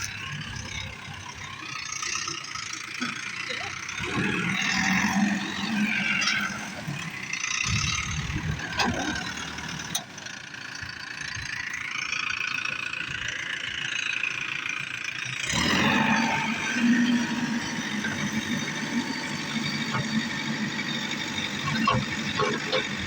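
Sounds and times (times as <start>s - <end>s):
diesel engine running: 0.0s - 23.0s
engine whine: 0.0s - 23.0s.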